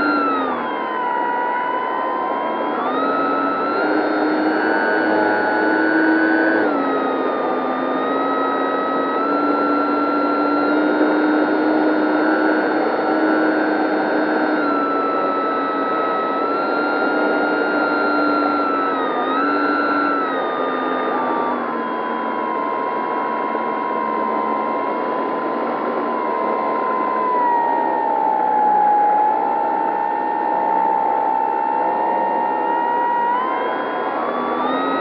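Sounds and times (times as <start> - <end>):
electric motor and propeller whining: 0.0 - 35.0.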